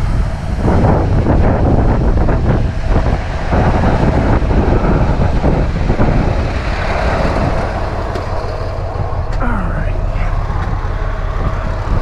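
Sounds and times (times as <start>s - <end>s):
diesel truck engine rumbling: 0.0s - 12.0s
wind buffeting microphone: 0.0s - 12.0s.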